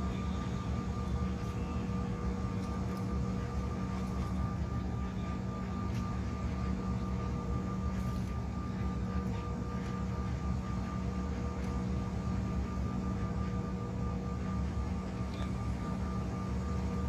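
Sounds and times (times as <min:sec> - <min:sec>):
aircraft cabin noise: 0:00.0 - 0:17.0
jet engine hum with whine: 0:00.0 - 0:17.0.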